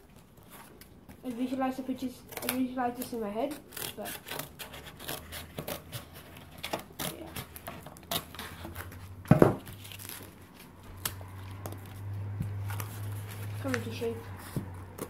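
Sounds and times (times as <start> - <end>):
scissors cutting cardboard: 1.2 - 15.0.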